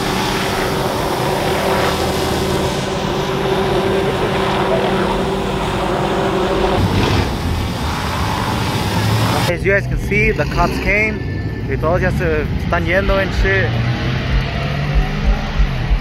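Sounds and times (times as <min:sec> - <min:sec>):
helicopter flying overhead: 0:00.0 - 0:15.8.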